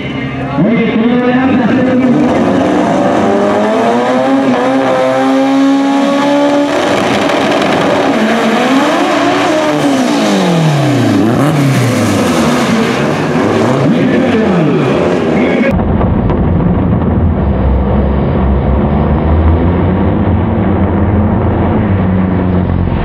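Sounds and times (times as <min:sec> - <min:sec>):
drag car engine revving: 0:00.0 - 0:23.0.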